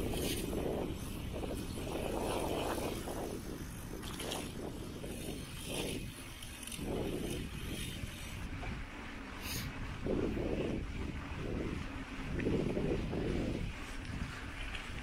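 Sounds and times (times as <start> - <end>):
bike tyres rumbling and rattling: 0.0 - 15.0.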